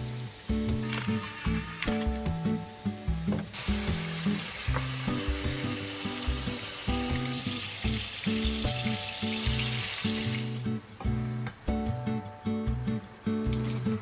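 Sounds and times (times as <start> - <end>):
food sizzling in oil: 0.0 - 11.9.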